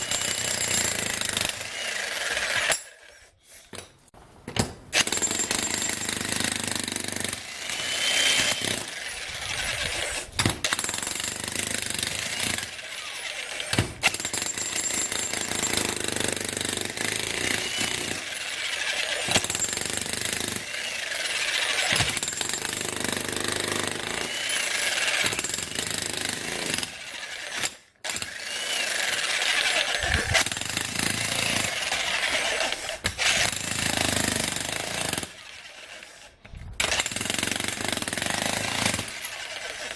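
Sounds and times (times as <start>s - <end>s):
jackhammer hammering concrete: 0.0s - 1.7s, 5.0s - 9.0s, 10.4s - 12.8s, 13.7s - 27.0s, 27.6s - 35.4s, 36.8s - 39.9s.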